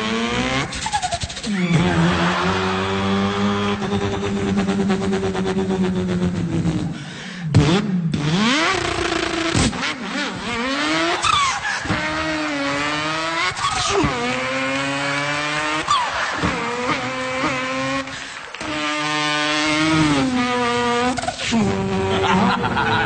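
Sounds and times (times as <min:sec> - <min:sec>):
man imitating car engine: 0:00.0 - 0:23.0.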